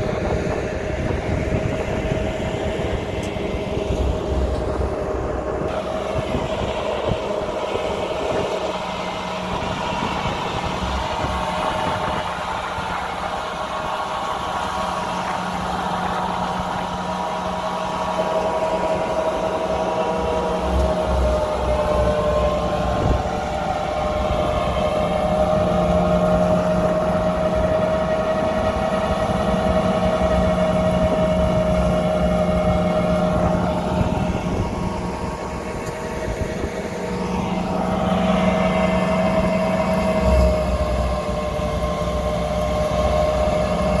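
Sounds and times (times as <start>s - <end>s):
threshing machine whining: 0.0s - 44.0s
tractor engine hum: 0.0s - 44.0s.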